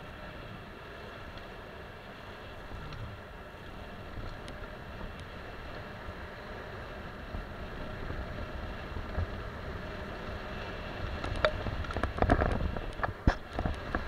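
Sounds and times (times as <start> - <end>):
bicycle tyres rolling on dirt: 0.0 - 14.0
bike clicking over bumps: 0.0 - 14.0
wind buffeting microphone: 2.5 - 14.0.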